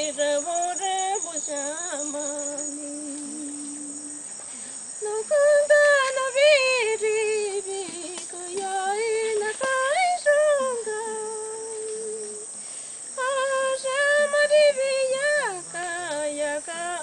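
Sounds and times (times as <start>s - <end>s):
woman singing unaccompanied: 0.0s - 12.6s, 13.2s - 17.0s.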